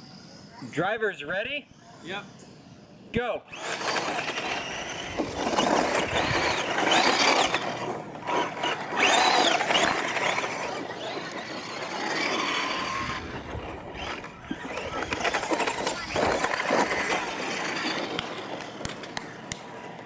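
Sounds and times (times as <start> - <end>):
rc truck motors whining: 0.0 - 20.0
tyres rustling on dirt: 3.5 - 20.0.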